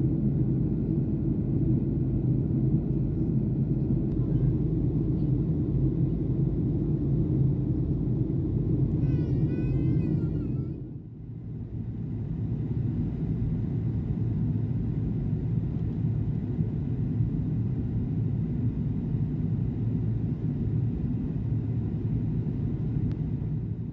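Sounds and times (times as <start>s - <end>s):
airliner cabin rumble: 0.0s - 23.9s.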